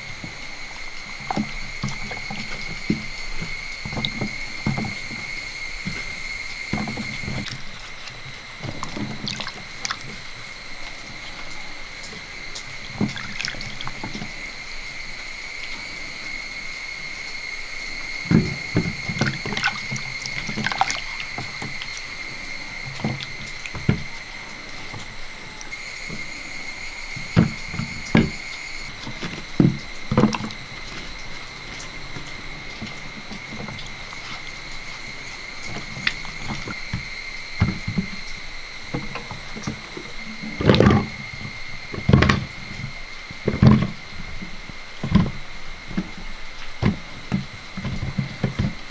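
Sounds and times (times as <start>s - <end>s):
water sloshing and splashing: 0.0s - 48.9s.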